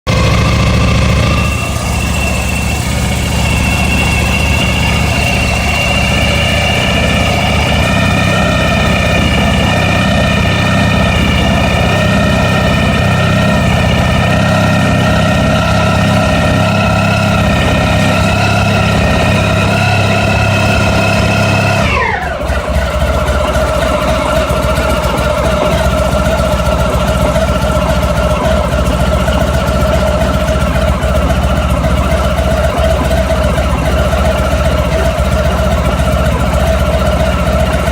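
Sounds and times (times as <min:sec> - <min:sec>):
engine rattling: 0:00.0 - 0:37.9
motorcycle engine idling: 0:00.1 - 0:37.9.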